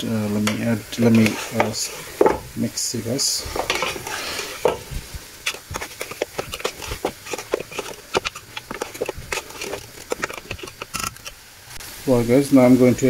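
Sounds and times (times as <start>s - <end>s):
spoon scraping metal pot: 0.0s - 11.4s
low sizzle: 0.0s - 13.0s.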